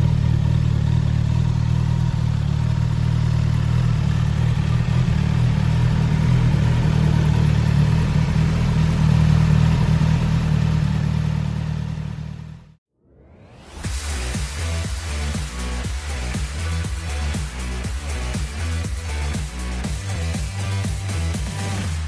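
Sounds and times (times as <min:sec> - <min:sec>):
motorcycle engine idling: 0:00.0 - 0:12.8, 0:14.4 - 0:22.0.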